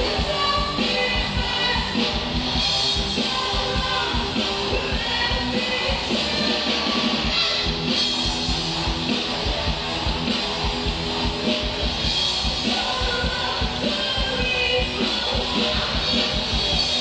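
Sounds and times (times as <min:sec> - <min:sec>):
drum kit steady beat: 0:00.0 - 0:17.0
guitars: 0:00.0 - 0:17.0
live rock band playing: 0:00.0 - 0:17.0.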